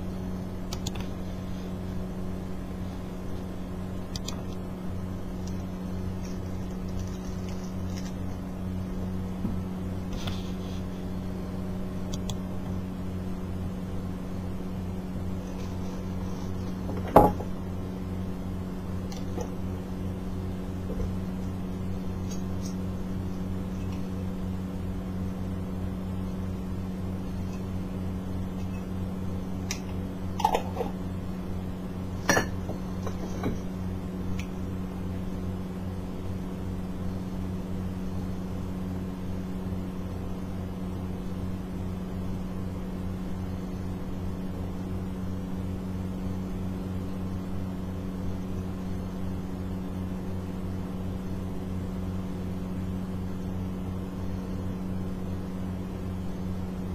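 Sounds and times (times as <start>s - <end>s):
low electrical hum: 0.0s - 56.9s.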